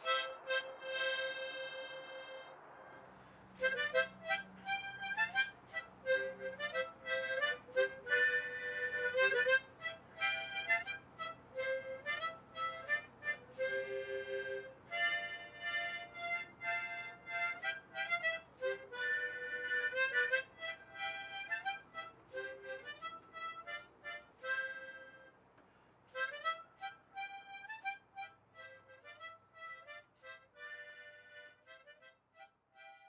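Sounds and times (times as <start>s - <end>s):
harmonica playing slow tune: 0.0s - 25.4s, 26.1s - 33.0s.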